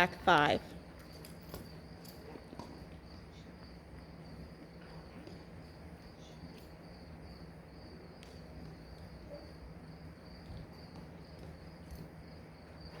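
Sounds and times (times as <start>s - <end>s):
crickets chirping: 0.0s - 13.0s
faint low hum: 0.0s - 13.0s.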